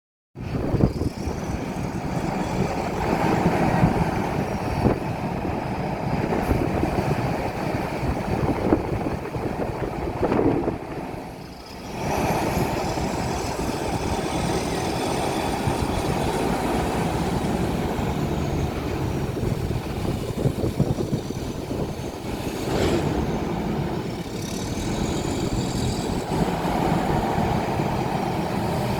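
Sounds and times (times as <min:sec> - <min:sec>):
excavator engine running: 0:00.4 - 0:28.9.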